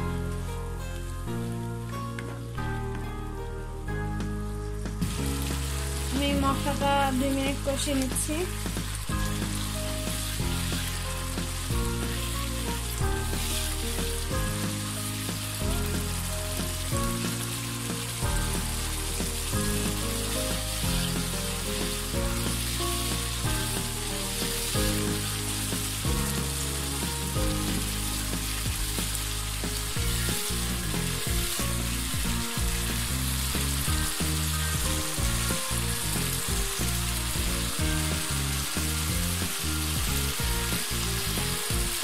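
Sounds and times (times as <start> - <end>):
background music: 0.0 - 42.0
spice paste sizzling in a wok: 4.6 - 42.0.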